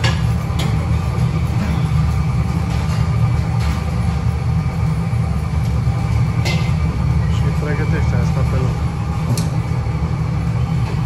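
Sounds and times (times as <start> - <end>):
kitchen ventilation rumble: 0.0 - 11.0.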